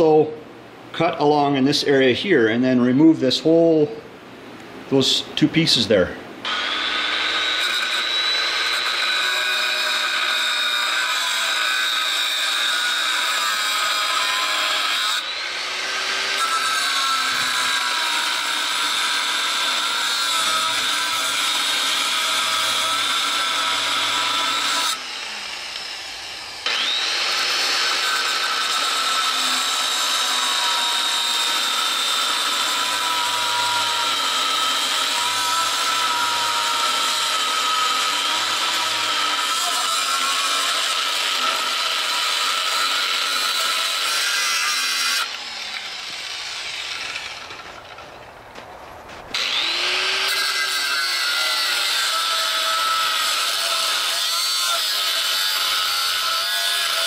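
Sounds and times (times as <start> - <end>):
angle grinder cutting steel: 6.4 - 48.0, 49.3 - 57.0.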